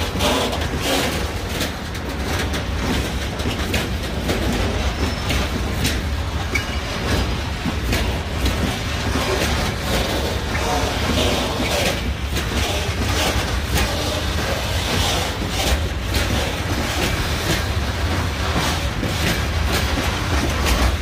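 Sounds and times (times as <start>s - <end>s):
freight train rumbling: 0.0s - 21.0s
train wheels clacking on rail joints: 0.0s - 21.0s.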